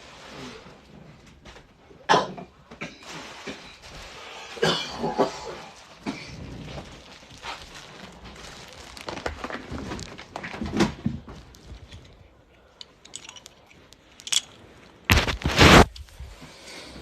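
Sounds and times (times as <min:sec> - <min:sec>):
crinkling and rustling: 0:02.6 - 0:17.0.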